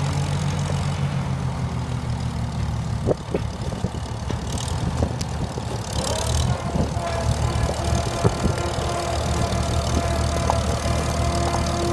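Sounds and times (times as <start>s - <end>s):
tractor engine running: 0.0s - 11.9s.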